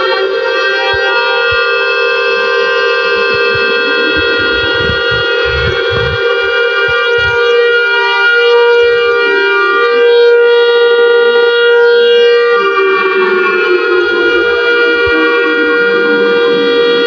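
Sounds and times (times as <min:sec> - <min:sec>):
loud buzzy alarm tone: 0:00.0 - 0:17.0.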